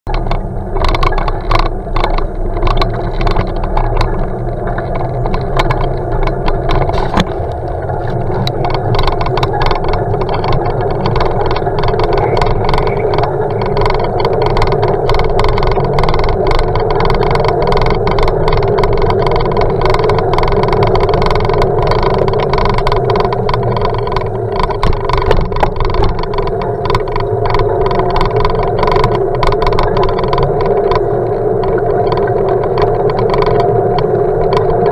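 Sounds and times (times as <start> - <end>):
bicycle rolling over paving: 0.1 - 34.9.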